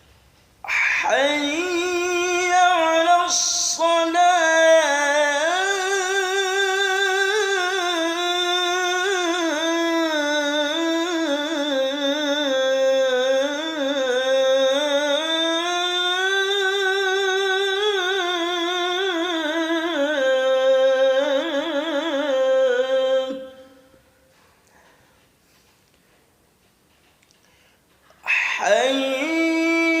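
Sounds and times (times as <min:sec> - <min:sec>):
man chanting call to prayer: 0:00.7 - 0:24.1, 0:28.1 - 0:30.0.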